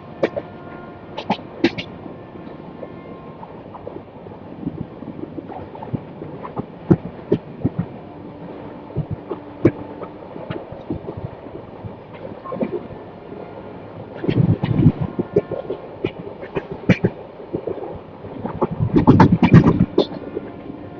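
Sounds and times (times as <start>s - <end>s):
passenger train rumbling: 0.0s - 20.9s.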